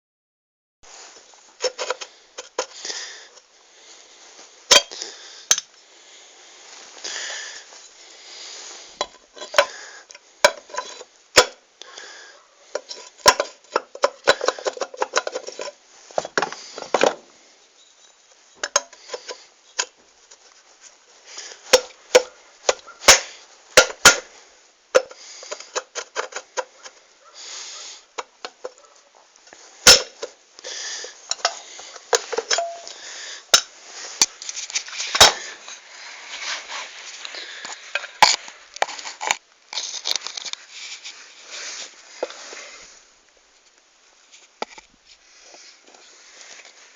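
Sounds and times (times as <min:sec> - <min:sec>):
rustling: 0:00.9 - 0:46.9.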